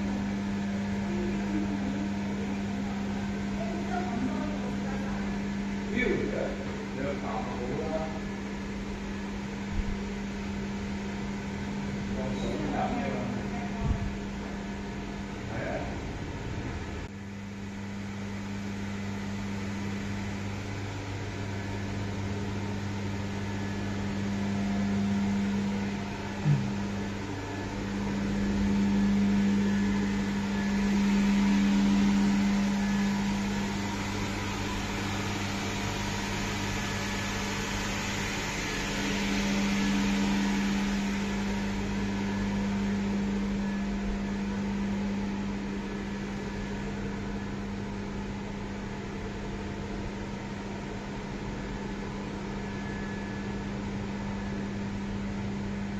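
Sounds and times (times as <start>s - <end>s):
steady mechanical hum: 0.0s - 55.9s.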